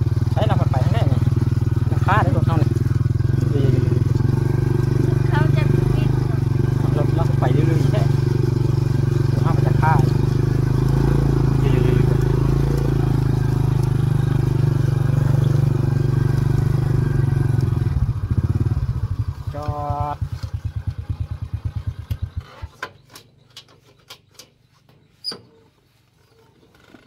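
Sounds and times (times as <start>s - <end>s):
small motorcycle engine running: 0.0s - 22.8s.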